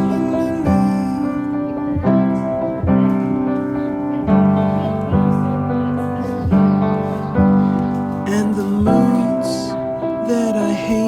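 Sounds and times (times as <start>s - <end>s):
soft pop song with piano chords: 0.0s - 11.0s.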